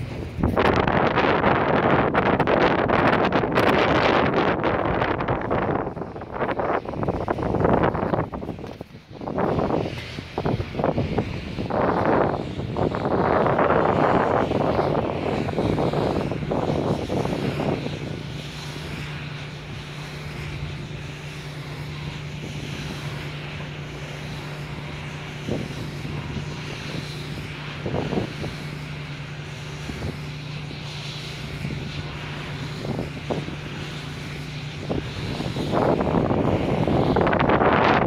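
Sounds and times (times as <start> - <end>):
wind buffeting microphone: 0.0 - 38.0
wind turbine humming: 0.0 - 38.0.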